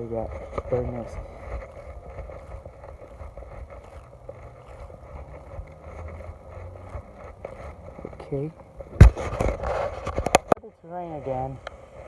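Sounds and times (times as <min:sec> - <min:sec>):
handling clicks and rustles: 0:00.0 - 0:10.6
wind rumble on microphone: 0:00.0 - 0:10.6.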